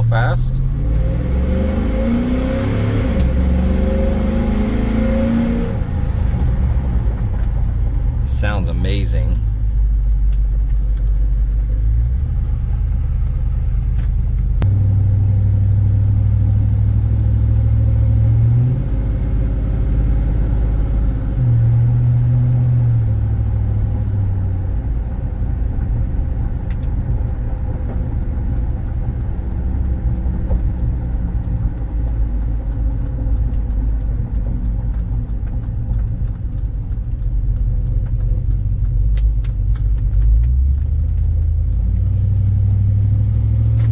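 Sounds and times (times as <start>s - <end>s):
car engine rumble: 0.0s - 43.9s
road noise: 0.0s - 43.9s.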